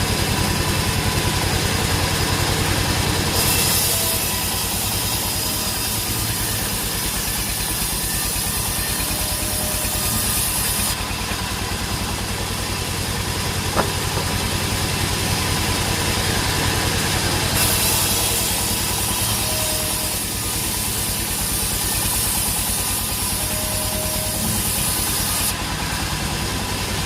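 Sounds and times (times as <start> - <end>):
sawmill engine idling: 0.0 - 27.0.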